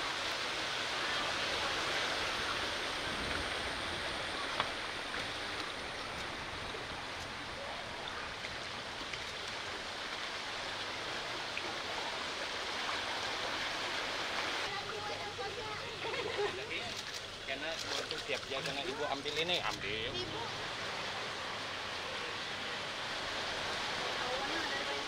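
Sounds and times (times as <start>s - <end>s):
rushing floodwater: 0.0s - 25.0s.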